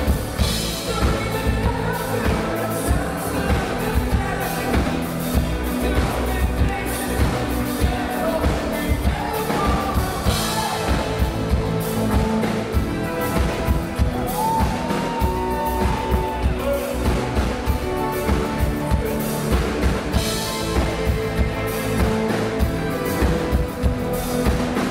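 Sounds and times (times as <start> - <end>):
drum beat: 0.0 - 24.9
synthesizer keyboards: 0.0 - 24.9.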